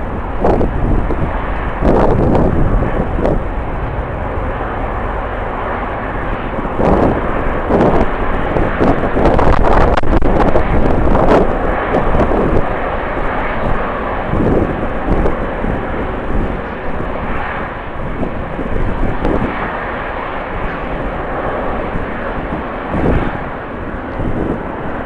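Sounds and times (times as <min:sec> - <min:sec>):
jet engines roaring: 0:00.0 - 0:25.0
wind buffeting microphone: 0:00.0 - 0:25.0.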